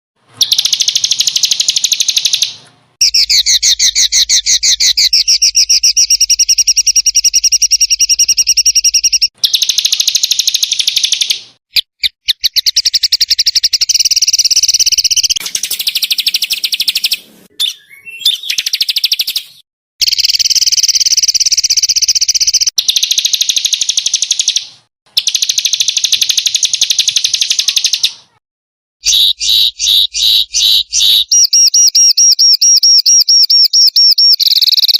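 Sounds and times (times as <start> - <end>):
songbird harsh trilled song: 0.4 - 24.6, 29.0 - 34.9.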